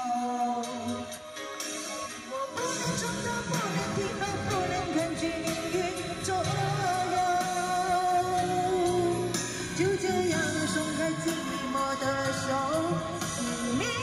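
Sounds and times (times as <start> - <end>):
instrumental backing music: 0.0 - 14.0
woman singing pop ballad: 0.0 - 14.0.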